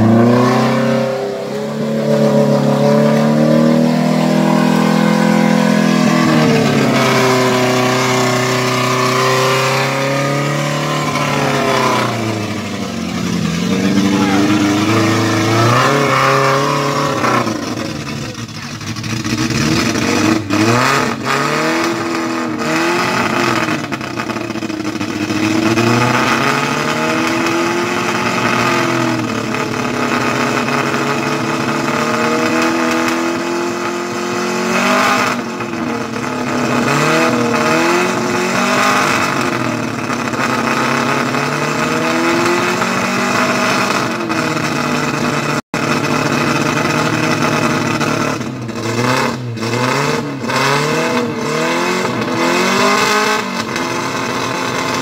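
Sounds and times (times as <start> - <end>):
engine revving in mud: 0.0 - 55.0.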